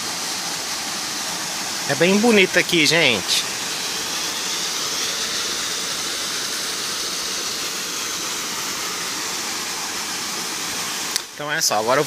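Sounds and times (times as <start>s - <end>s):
waterfall pouring into a pool: 0.0s - 12.0s.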